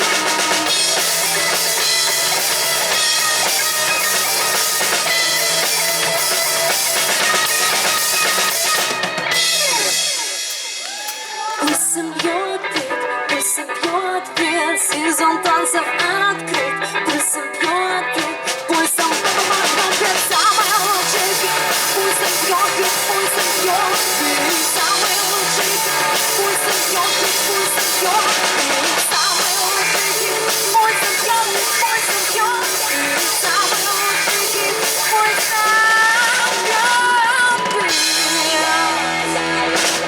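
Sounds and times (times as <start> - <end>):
drum kit: 0.0 - 40.0
electric guitar: 0.0 - 40.0
live rock band playing: 0.0 - 40.0.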